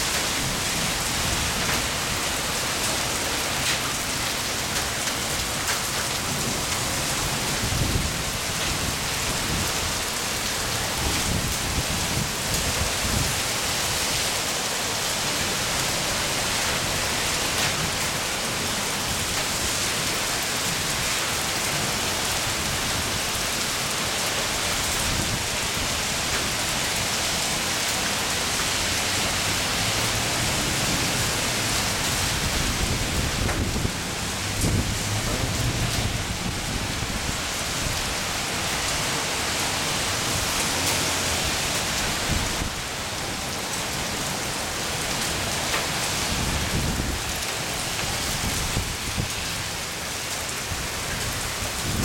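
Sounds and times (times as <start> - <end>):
heavy rain on pavement: 0.0 - 52.0.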